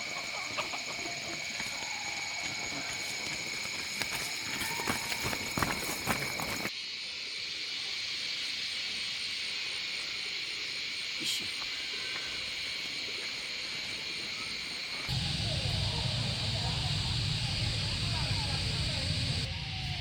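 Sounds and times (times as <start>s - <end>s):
fast pulsing insect call: 0.0s - 20.0s
forest insects chorus: 0.0s - 20.0s.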